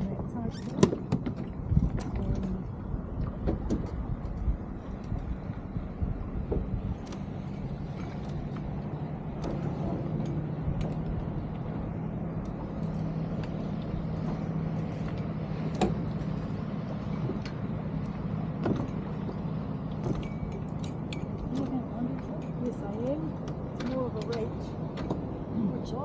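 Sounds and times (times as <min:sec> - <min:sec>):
low motor hum: 0:00.0 - 0:26.0
water and wind noise: 0:00.0 - 0:26.0.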